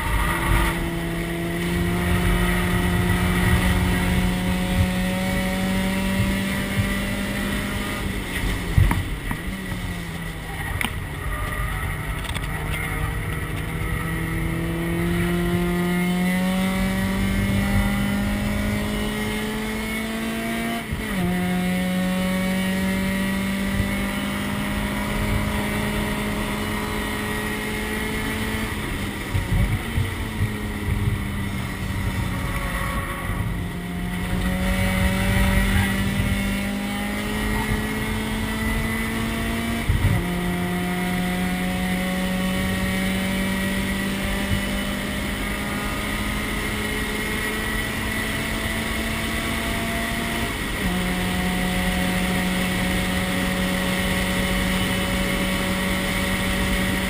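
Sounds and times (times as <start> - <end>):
race car engine under load: 0.0 - 57.0.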